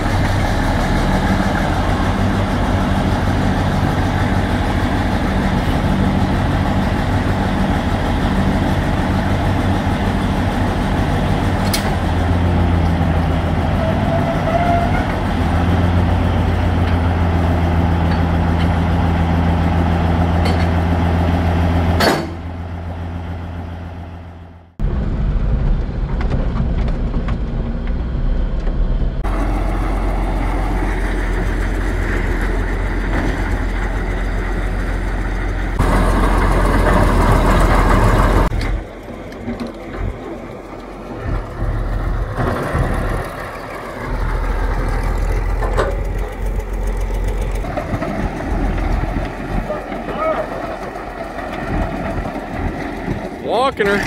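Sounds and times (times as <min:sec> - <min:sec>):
diesel engine running: 0:00.0 - 0:54.0
truck engine driving: 0:00.0 - 0:54.0.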